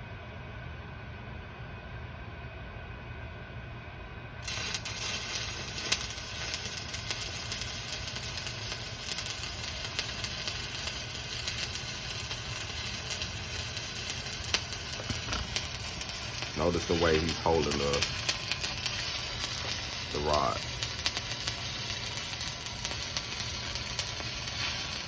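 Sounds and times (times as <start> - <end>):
low steady hum: 0.0 - 25.0
welding arc crackling and popping: 4.4 - 25.0.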